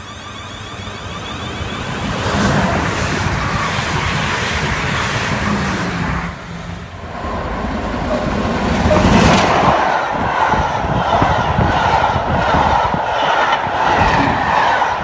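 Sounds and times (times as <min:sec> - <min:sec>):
electric train approaching: 0:00.0 - 0:15.0
electric train running past: 0:00.0 - 0:15.0.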